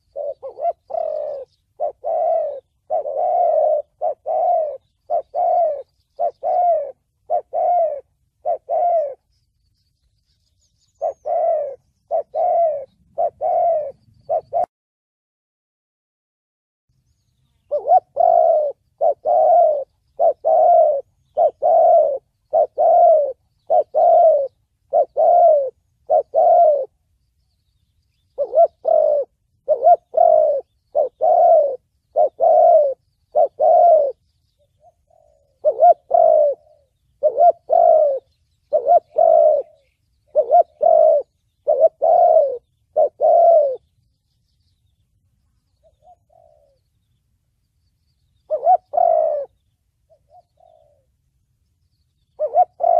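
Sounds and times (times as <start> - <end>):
dove cooing: 0.0 - 9.3, 10.8 - 14.7, 17.6 - 27.0, 28.1 - 43.9, 45.7 - 47.1, 48.4 - 51.2, 52.3 - 52.9.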